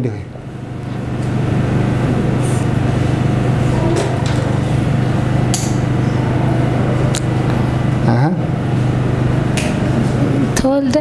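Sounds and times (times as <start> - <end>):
loud low-pitched hum: 0.0 - 11.0.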